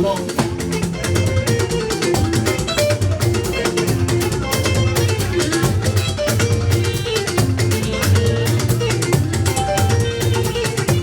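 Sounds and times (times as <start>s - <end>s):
fast percussion beat: 0.0s - 11.0s
shaker strikes: 0.0s - 11.0s.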